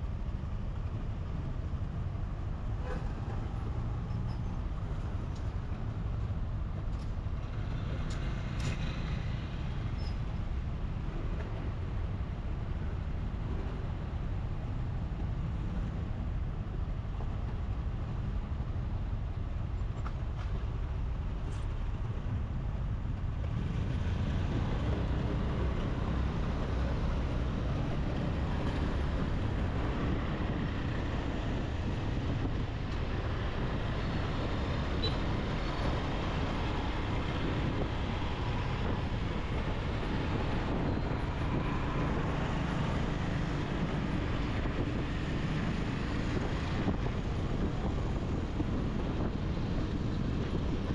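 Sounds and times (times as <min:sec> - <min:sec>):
motorbike engine and road noise: 0:00.0 - 0:50.9.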